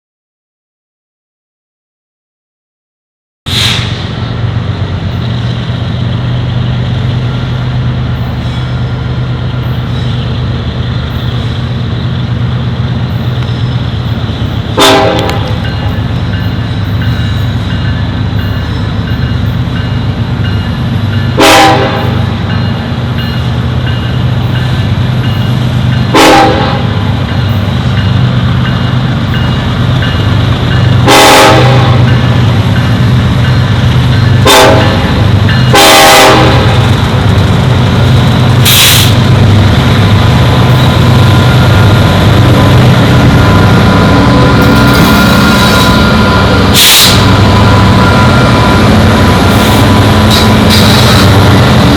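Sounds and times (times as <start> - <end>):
diesel locomotive engines droning: 3.5 - 51.9.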